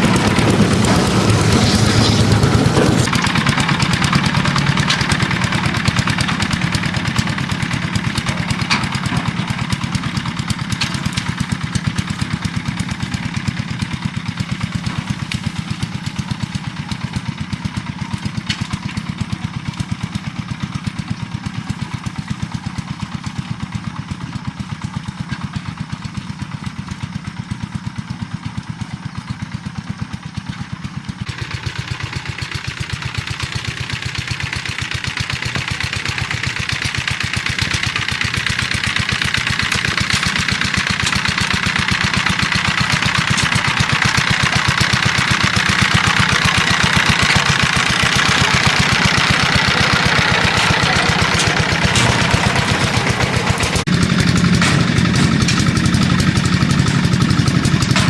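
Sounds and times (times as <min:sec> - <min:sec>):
small engine chugging: 0:00.0 - 0:58.0.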